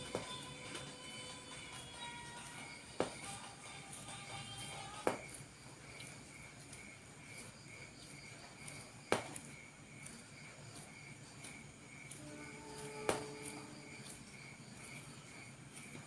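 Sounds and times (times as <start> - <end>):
cricket chirping: 0.0 - 16.0
low steady hum: 0.0 - 16.0.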